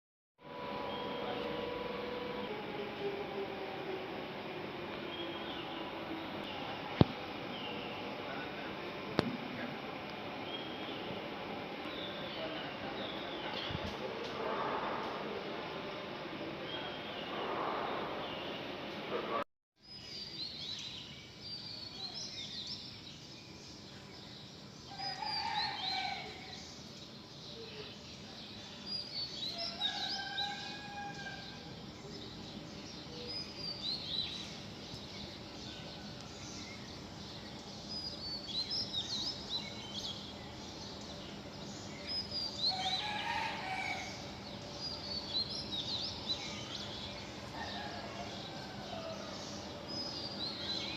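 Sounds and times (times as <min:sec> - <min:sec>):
steady background hiss: 0:00.4 - 0:50.9
birds chirping: 0:00.5 - 0:50.9.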